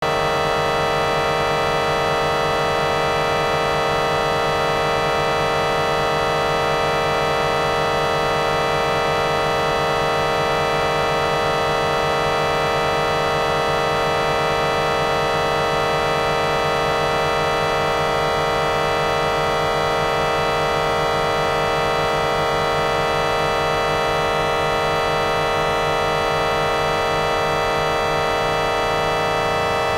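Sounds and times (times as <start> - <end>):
buzzing vocoder drone: 0.0 - 29.9.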